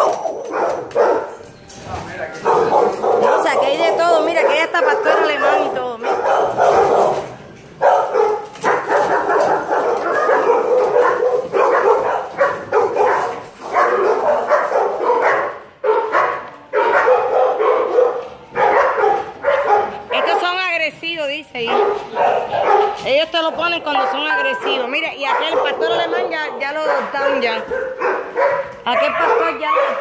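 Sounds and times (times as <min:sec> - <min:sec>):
dogs barking: 0:00.0 - 0:01.6, 0:02.2 - 0:20.8, 0:21.5 - 0:30.0.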